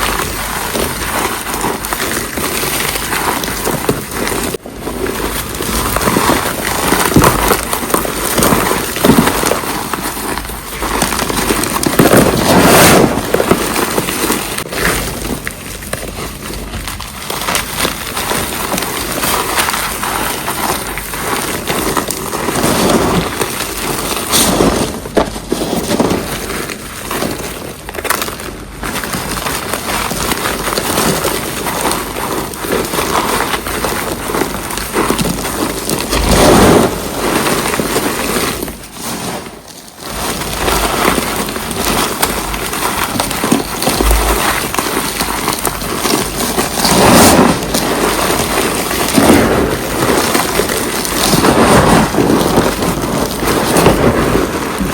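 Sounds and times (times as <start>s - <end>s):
cornstarch crunching: 0.0s - 54.9s.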